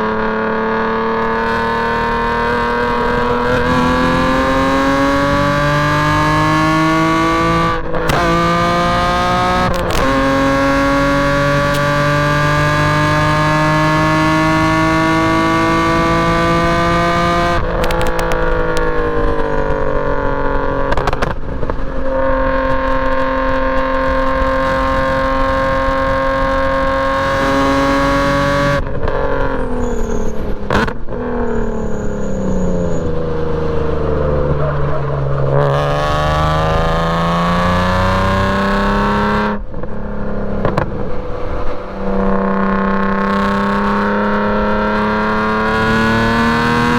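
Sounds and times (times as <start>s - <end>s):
race car engine shifting gears: 0.8s - 46.9s.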